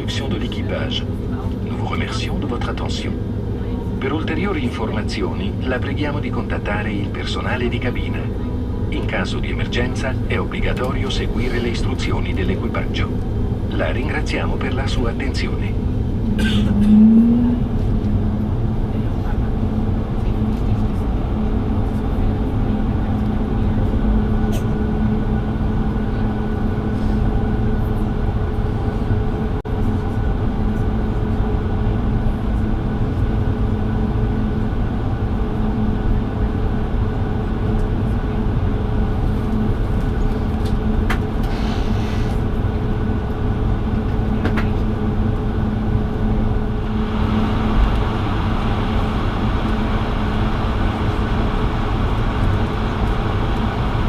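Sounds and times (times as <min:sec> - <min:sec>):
airliner cabin rumble: 0:00.0 - 0:54.0
low engine hum: 0:00.0 - 0:54.0.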